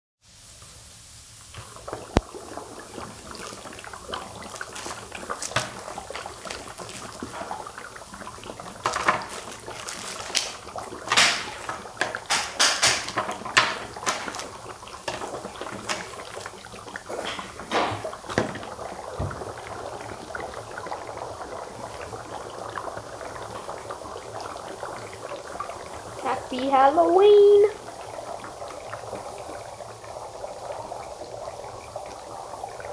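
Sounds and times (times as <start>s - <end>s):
dry ice bubbling in water: 1.3s - 32.9s.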